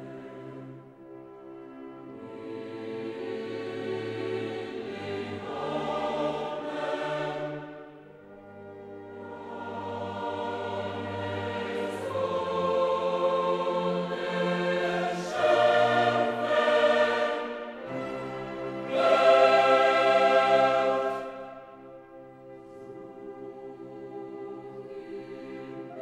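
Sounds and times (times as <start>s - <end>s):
choir singing held chords: 1.9s - 26.0s.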